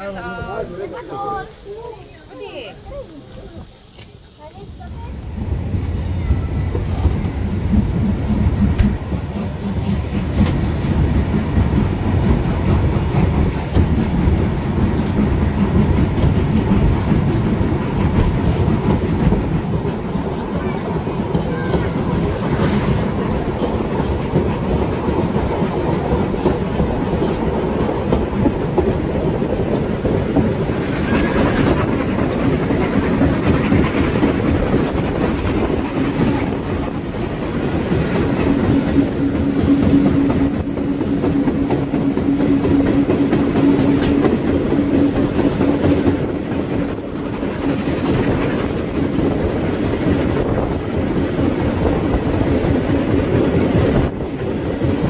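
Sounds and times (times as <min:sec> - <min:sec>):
train running on track: 0:00.0 - 0:55.0.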